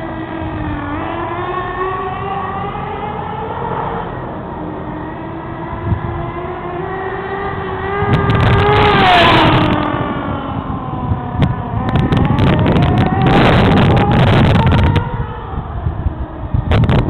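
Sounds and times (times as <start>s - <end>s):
small nitro engine whining: 0.0s - 17.0s.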